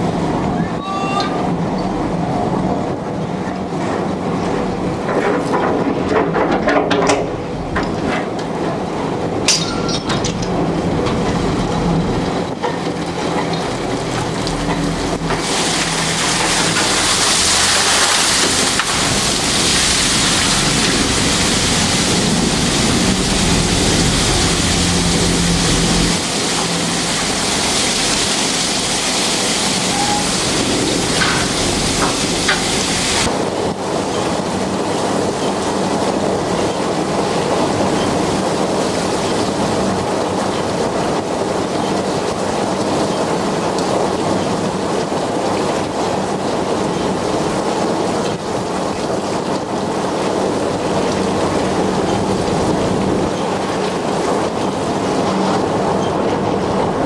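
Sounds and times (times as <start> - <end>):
boat engine drone: 0.0 - 57.0
rushing hissing water: 7.2 - 57.0.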